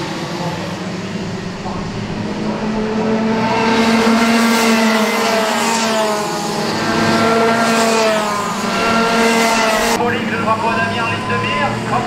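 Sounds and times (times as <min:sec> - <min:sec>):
racing kart engines passing: 0:00.0 - 0:12.0.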